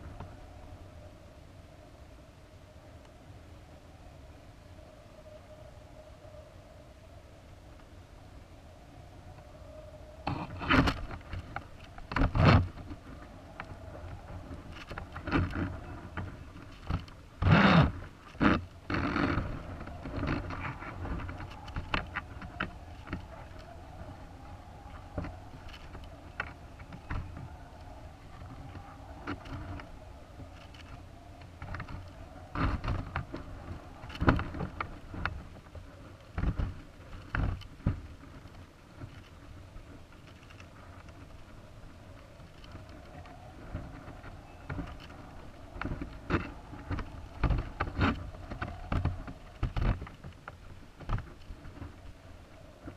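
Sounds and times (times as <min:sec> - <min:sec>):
low steady hiss: 0:00.0 - 0:52.9.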